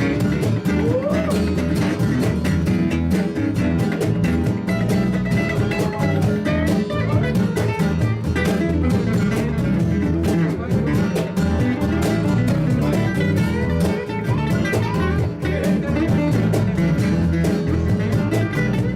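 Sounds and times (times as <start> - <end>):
guitar: 0.0 - 18.9
live band playing: 0.0 - 18.9
rhythmic beat: 0.0 - 18.9.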